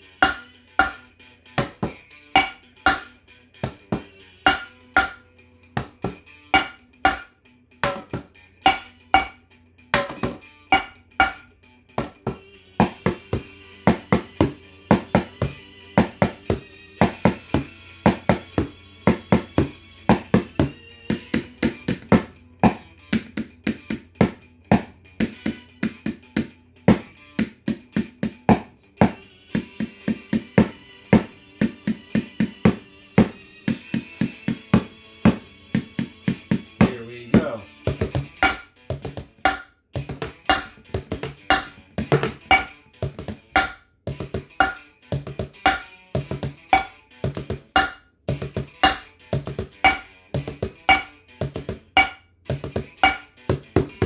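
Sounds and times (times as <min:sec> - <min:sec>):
utensils drumming on bowls and pot: 0:00.0 - 0:05.2, 0:05.9 - 0:09.4, 0:10.0 - 0:26.2, 0:26.9 - 0:54.0
backing track music: 0:00.0 - 0:54.0.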